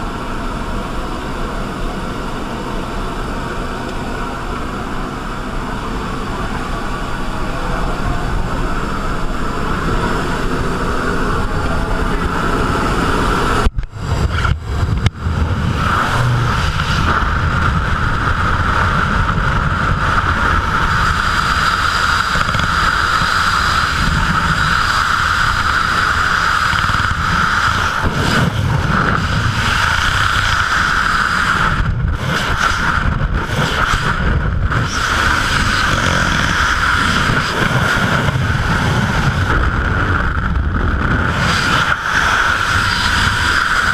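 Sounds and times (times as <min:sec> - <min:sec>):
wind buffeting microphone: 0:04.0 - 0:43.9.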